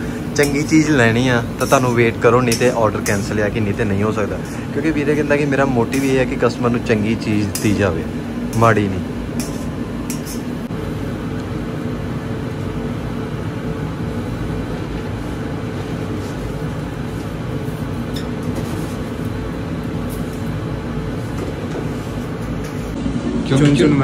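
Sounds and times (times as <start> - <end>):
exhaust ventilation hum: 0.0 - 24.0
kitchen gas range drone: 0.0 - 24.0.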